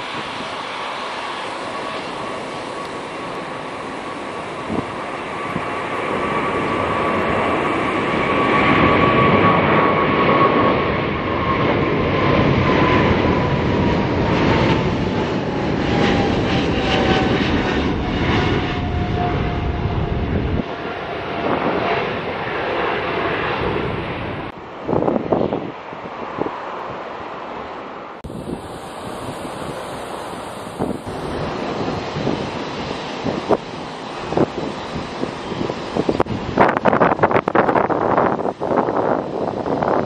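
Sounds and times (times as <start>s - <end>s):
jet engines roaring with fan whine: 0.0s - 40.0s.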